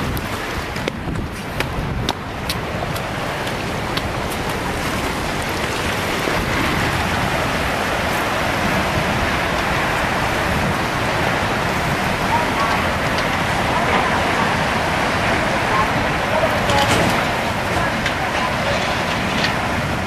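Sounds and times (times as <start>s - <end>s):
rushing water roar: 0.0s - 20.0s.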